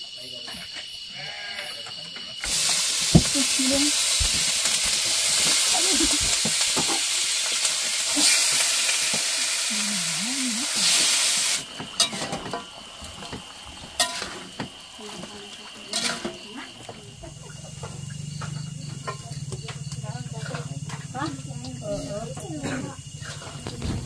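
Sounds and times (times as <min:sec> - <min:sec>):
food sizzling in hot oil: 0:02.3 - 0:22.4.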